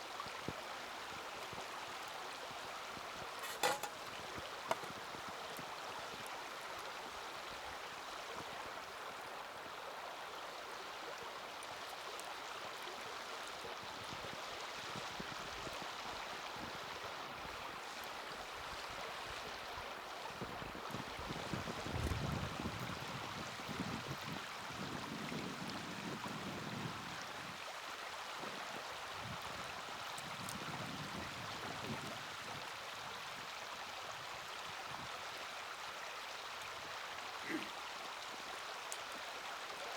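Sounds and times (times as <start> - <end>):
flowing water rushing: 0.0 - 21.9, 22.9 - 39.9.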